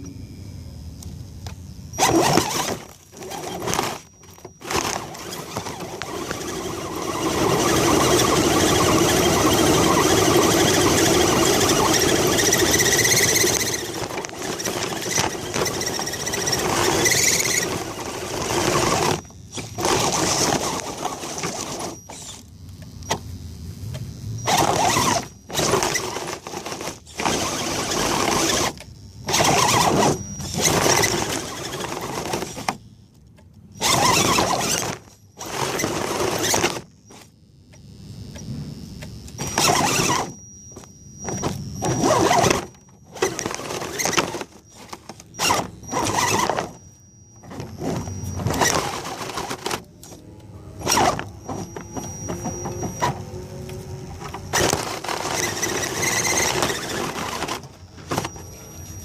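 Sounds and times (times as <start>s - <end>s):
electric motor and drivetrain whining: 0.0s - 59.0s.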